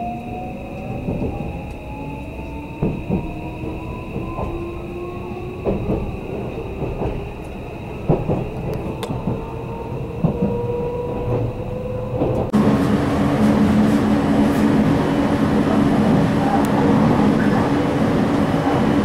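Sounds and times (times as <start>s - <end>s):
electric train motors whining: 0.0s - 19.0s.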